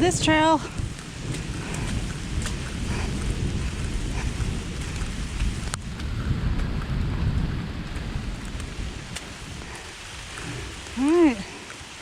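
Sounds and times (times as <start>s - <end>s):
thunder rumbling: 0.0s - 11.6s
raindrops ticking: 0.0s - 12.0s
steady rain: 0.0s - 12.0s.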